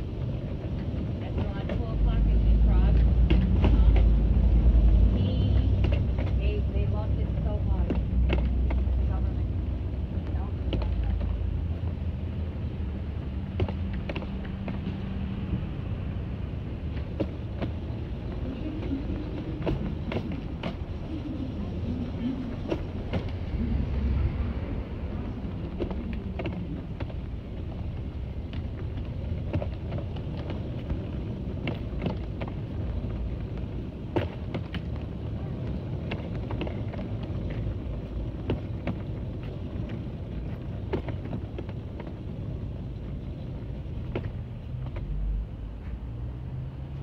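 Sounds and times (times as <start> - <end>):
suitcase wheels rumbling on concrete: 0.0 - 47.0.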